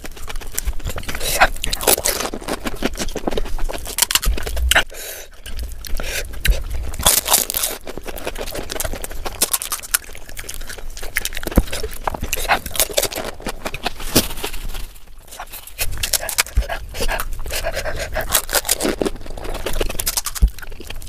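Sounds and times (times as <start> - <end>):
crunching crisp shells: 0.0 - 21.0.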